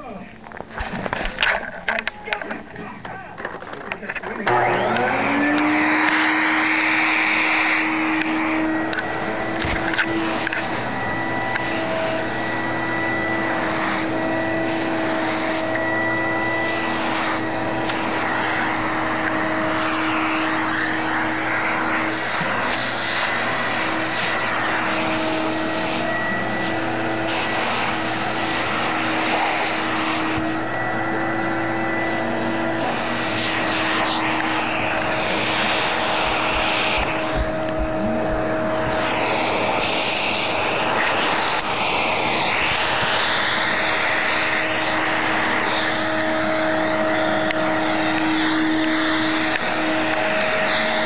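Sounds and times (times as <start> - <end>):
vacuum cleaner motor whine: 0.0 - 51.0
rushing air: 4.4 - 51.0.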